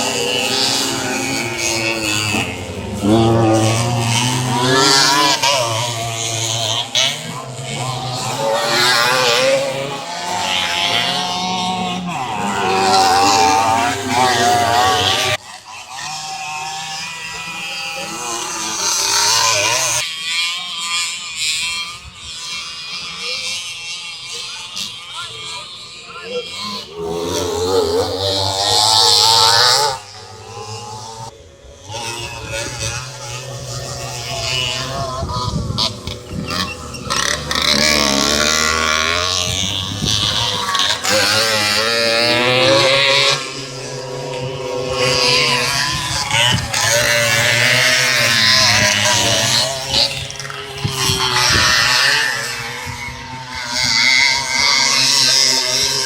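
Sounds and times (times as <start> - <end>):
motocross bikes racing: 0.0 - 56.0.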